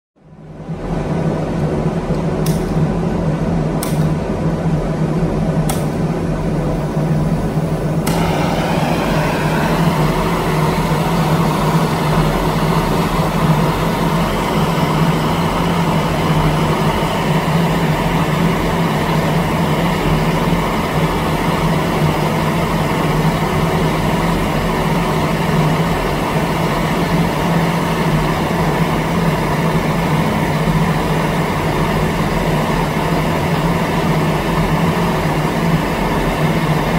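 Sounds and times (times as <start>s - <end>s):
steady low hum: 0.2s - 36.9s
blowtorch flame hissing: 5.8s - 36.9s.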